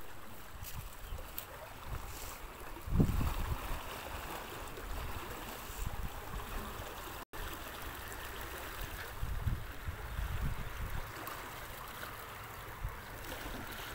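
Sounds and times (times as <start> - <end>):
floodwater flowing: 0.0 - 13.9.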